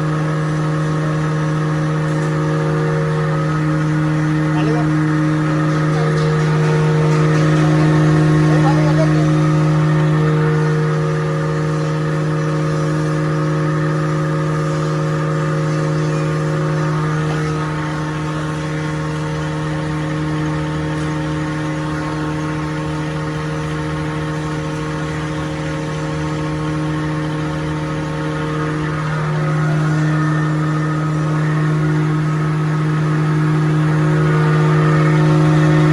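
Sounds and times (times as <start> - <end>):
wood-grinding machine humming: 0.0 - 35.9.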